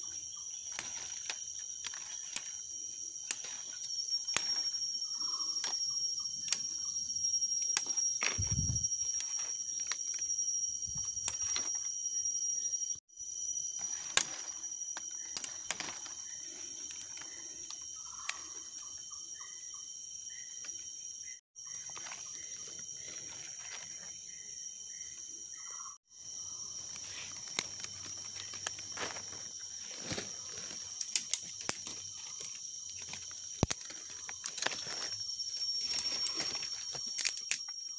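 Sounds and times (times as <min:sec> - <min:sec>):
high-pitched insect chorus: 0:00.0 - 0:37.9.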